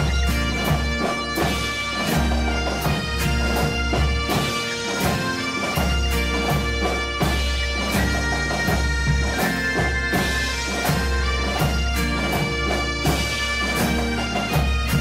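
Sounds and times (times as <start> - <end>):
bagpipes playing melody: 0.0 - 15.0
bass guitar: 0.0 - 15.0
steady drum beat: 0.0 - 15.0.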